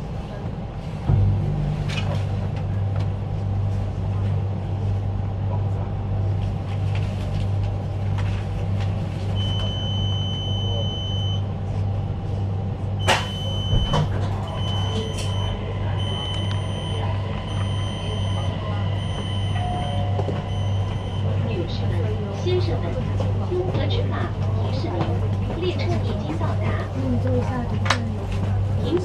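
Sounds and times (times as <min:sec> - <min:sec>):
train cabin hum and rumble: 0:00.0 - 0:29.0.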